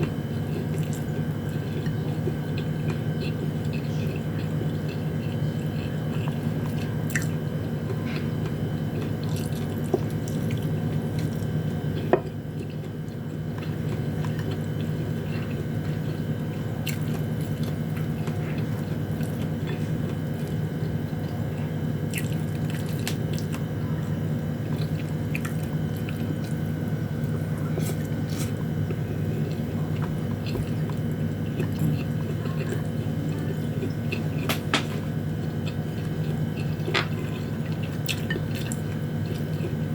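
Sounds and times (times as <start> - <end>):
person chewing food: 0.0 - 24.0, 24.6 - 39.9
steady background hum: 0.0 - 39.9.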